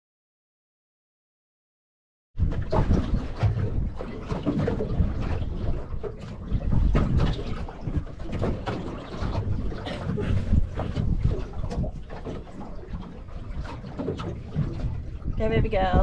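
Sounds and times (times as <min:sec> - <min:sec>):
water washing around hull: 0:02.4 - 0:16.0
wind buffeting microphone: 0:02.4 - 0:16.0.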